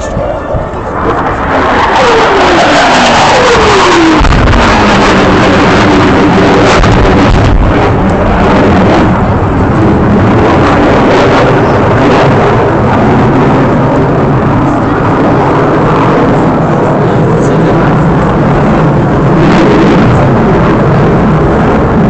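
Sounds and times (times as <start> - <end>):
fighter jet roar: 0.0 - 22.0.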